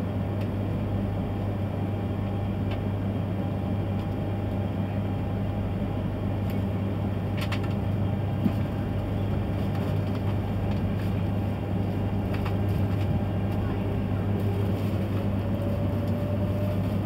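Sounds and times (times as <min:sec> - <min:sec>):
train interior hum and rumble: 0:00.0 - 0:17.0.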